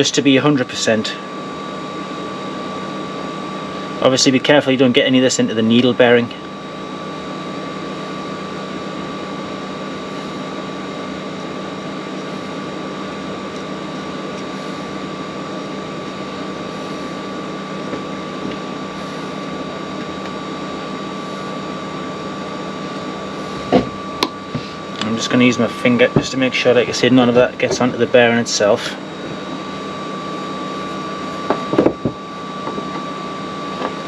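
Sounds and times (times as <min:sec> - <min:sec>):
high machine whine: 0:00.0 - 0:34.0
machine low drone: 0:00.0 - 0:34.0.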